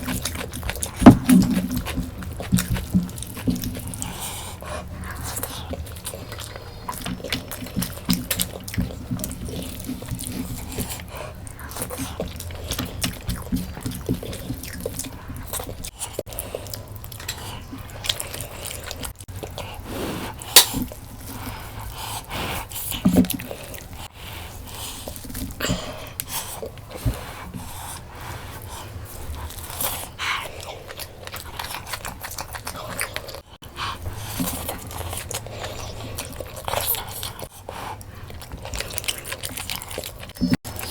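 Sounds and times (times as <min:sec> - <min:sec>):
wet chewing and lip smacking: 0:00.0 - 0:40.9.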